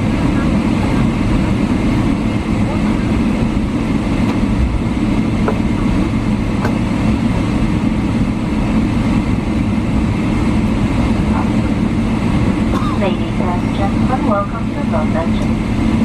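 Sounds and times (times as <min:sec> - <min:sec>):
airliner engine rumble in cabin: 0:00.0 - 0:16.0.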